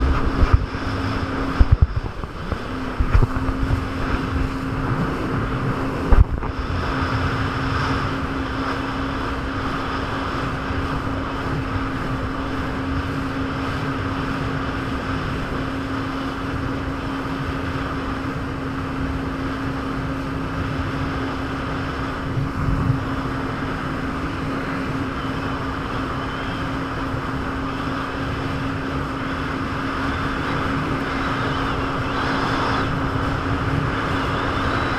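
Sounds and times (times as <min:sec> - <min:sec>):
jet ski engine running: 0:00.0 - 0:34.9
water rushing: 0:00.0 - 0:34.9
wind on microphone: 0:00.0 - 0:34.9.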